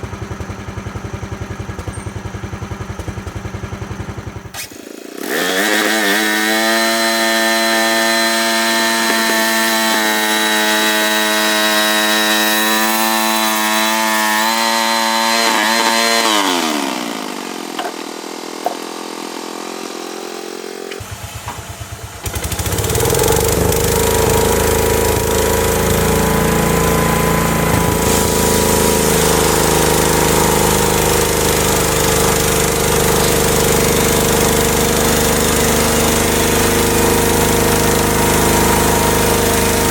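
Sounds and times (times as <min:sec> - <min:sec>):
sawmill running: 0:00.0 - 0:39.9.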